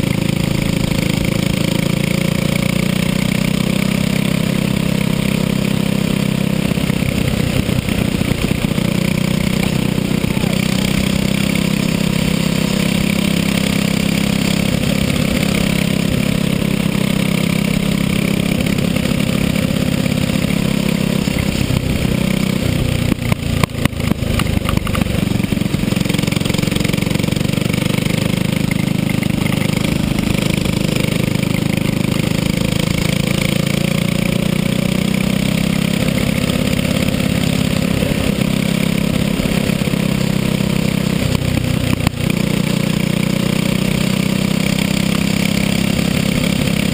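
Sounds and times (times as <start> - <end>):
go-kart engine running hard: 0.0 - 46.9.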